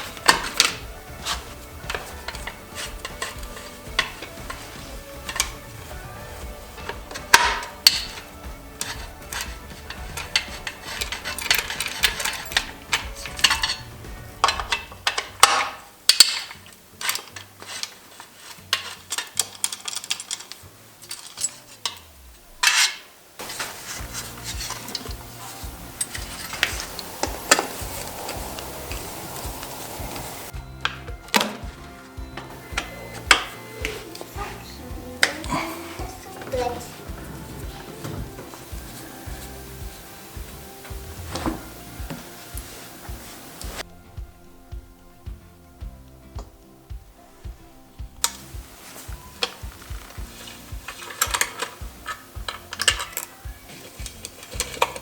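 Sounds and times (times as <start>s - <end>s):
background music: 0.0s - 55.0s
metal tools clinking and scraping: 0.0s - 55.0s.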